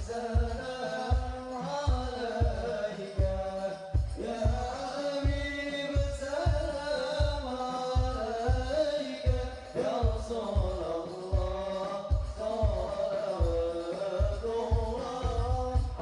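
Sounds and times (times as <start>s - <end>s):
frame drums deep beat: 0.0s - 16.0s.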